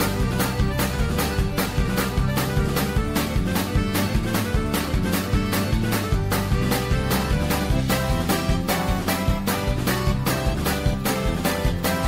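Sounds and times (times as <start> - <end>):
instrumental theme music: 0.0 - 12.0.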